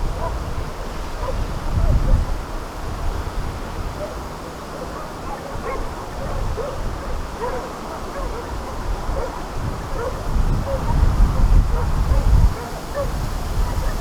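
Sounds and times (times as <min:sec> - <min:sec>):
dogs barking and yelping: 0:00.2 - 0:00.4, 0:01.2 - 0:02.2, 0:03.9 - 0:14.0.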